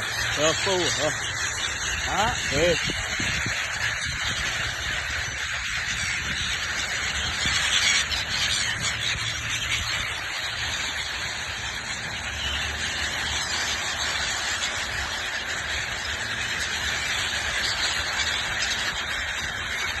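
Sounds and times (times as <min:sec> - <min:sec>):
birds chirping in chorus: 0:00.0 - 0:20.0.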